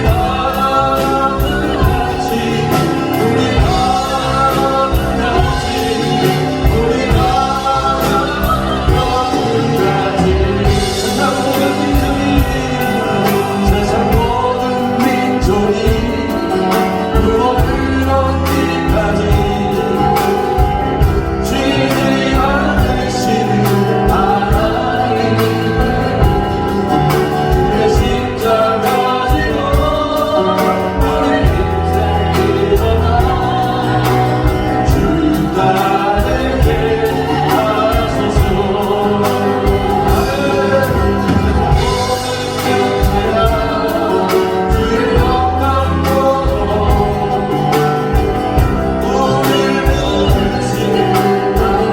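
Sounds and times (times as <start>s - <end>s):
band with steady beat: 0.0s - 51.9s
worship song singing: 0.0s - 51.9s.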